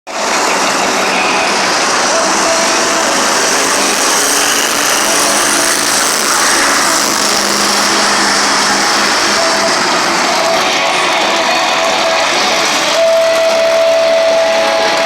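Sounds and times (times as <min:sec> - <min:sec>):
arena crowd noise: 0:00.0 - 0:15.0
loud truck engine running: 0:00.1 - 0:15.0.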